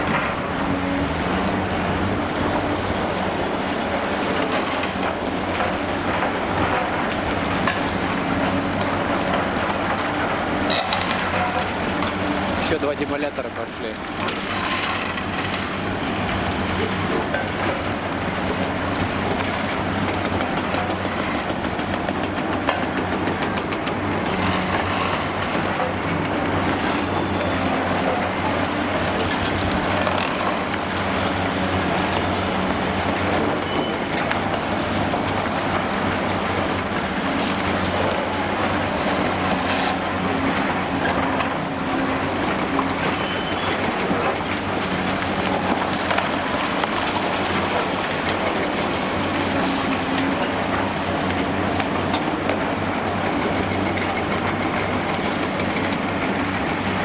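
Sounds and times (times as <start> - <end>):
crawler tracks clattering: 0.0 - 57.0
diesel engines running: 0.0 - 57.0.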